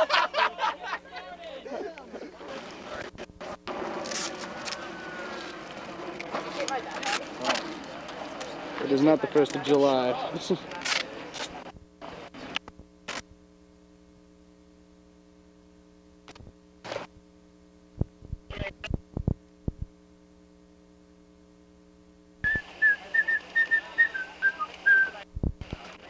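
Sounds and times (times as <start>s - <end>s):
low electrical hum: 0.0s - 26.0s
outdoor noise: 0.0s - 26.0s.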